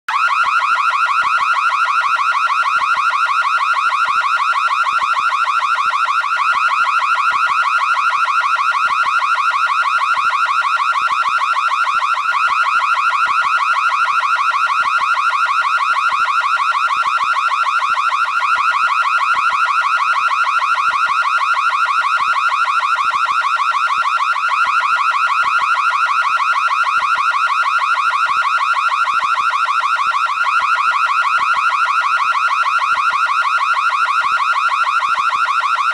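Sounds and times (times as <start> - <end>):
warbling electronic alarm: 0.1 - 35.9.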